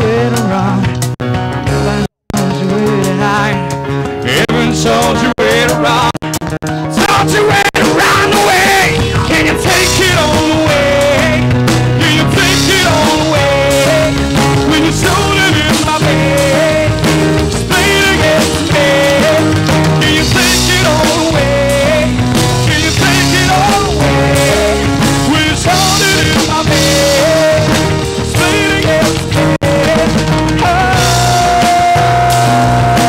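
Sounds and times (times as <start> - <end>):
instrumental rock band playing: 0.0 - 33.0.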